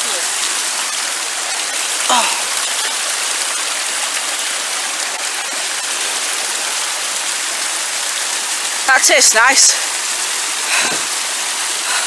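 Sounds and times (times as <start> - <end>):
stream splashing over rocks: 0.0 - 12.0.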